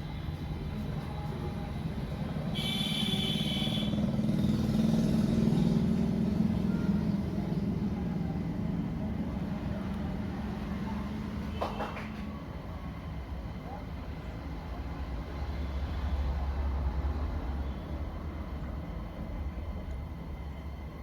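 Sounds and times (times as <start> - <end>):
passing vehicle engine rumble: 0.0 - 21.0.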